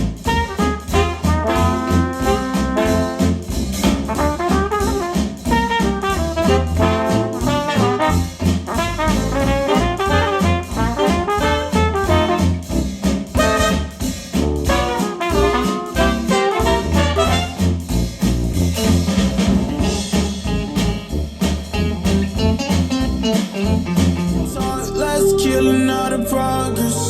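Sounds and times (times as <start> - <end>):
swing jazz with brass: 0.0 - 25.7.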